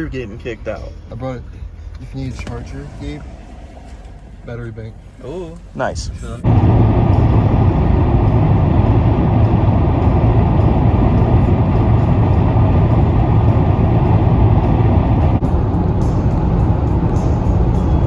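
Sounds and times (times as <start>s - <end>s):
car driving at speed: 1.6s - 18.0s.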